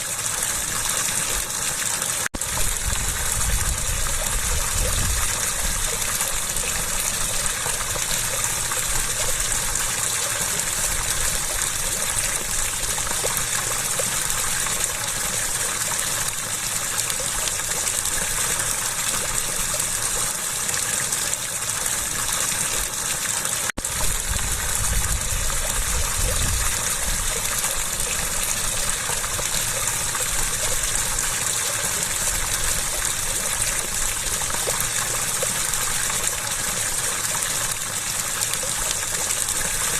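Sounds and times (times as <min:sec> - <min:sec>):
water rushing and gushing: 0:00.0 - 0:39.9.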